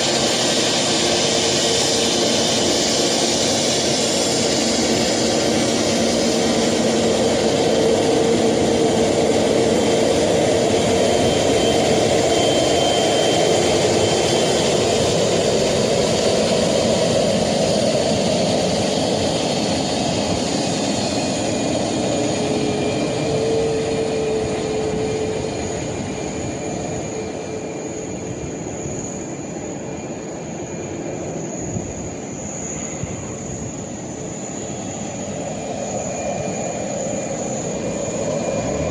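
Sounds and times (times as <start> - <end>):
high engine whine: 0.0 - 38.9
jet engines running: 0.0 - 38.9.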